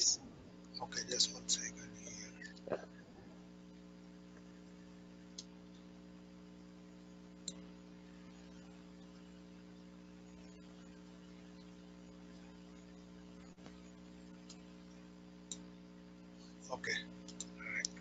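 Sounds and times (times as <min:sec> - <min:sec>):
faint electrical mains hum: 0:00.0 - 0:18.0.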